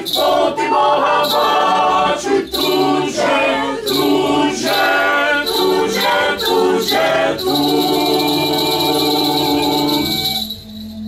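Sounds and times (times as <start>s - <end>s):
choir singing a carol in harmony: 0.0s - 10.6s.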